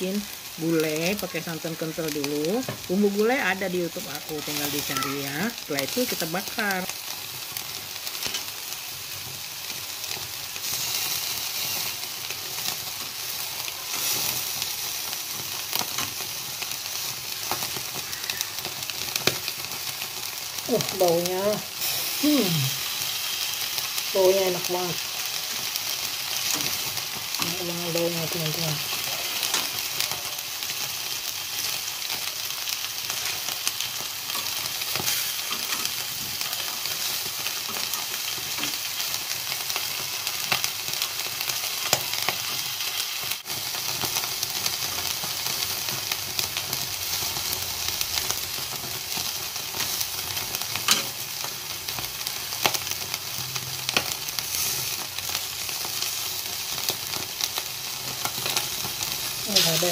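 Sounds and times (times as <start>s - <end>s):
fish sizzling on a grill: 0.0s - 59.9s.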